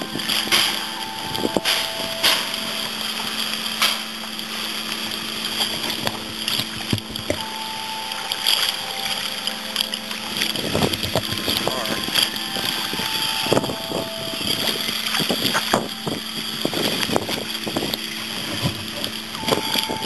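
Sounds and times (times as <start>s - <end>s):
sharp splashes: 0.0s - 20.0s
steady low hum: 0.0s - 20.0s
water lapping against kayak hull: 0.0s - 20.0s.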